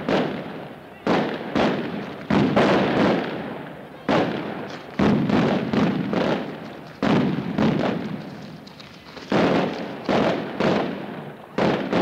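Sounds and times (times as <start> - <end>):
firecrackers crackling and banging: 0.0 - 12.0.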